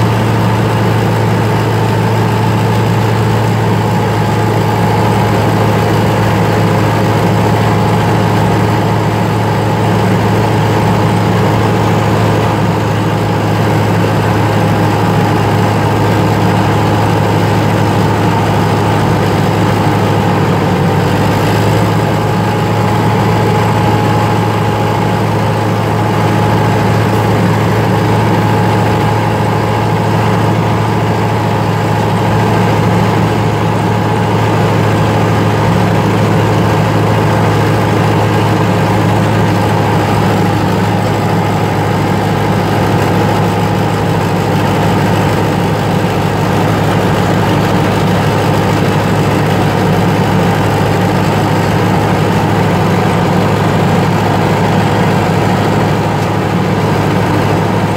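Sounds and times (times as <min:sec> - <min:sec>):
tractor diesel engine drone: 0:00.0 - 0:57.9.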